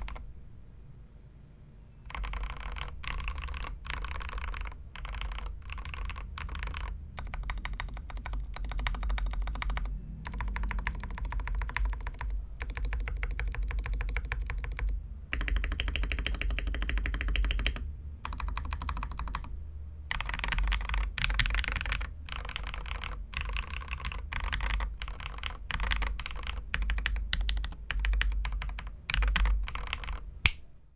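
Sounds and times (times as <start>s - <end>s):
mechanical keyboard typing: 0.0s - 0.2s, 2.1s - 19.5s, 20.1s - 30.6s.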